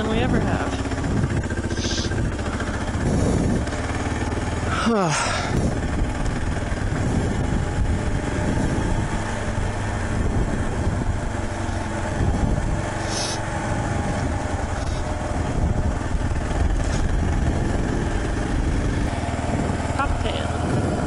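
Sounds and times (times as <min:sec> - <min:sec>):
wind rushing on microphone: 0:00.0 - 0:04.1, 0:05.4 - 0:21.0
motorcycle engine running: 0:00.0 - 0:21.0.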